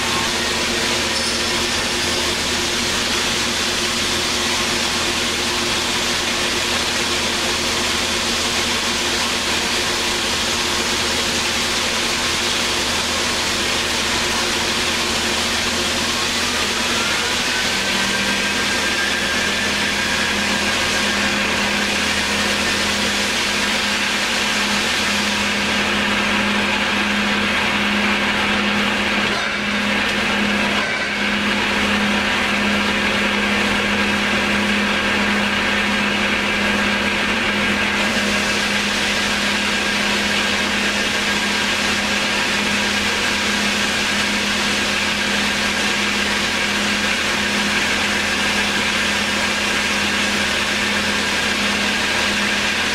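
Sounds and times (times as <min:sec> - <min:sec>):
thin steady whine: 0:00.0 - 0:07.9, 0:13.2 - 0:52.9
metal lathe motor humming: 0:00.0 - 0:52.9.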